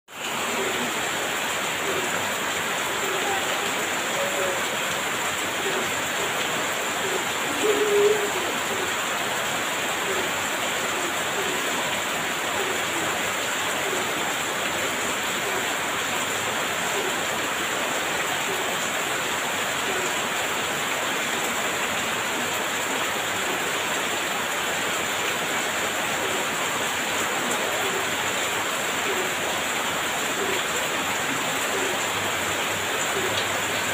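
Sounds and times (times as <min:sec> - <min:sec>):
heavy rain: 0:00.1 - 0:33.9.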